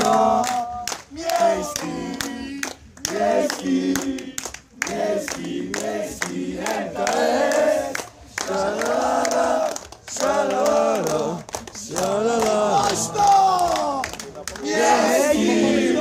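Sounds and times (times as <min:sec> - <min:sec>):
sharp hand claps: 0:00.0 - 0:13.0, 0:13.6 - 0:14.7
crowd singing a chant: 0:00.0 - 0:13.2, 0:14.6 - 0:16.0.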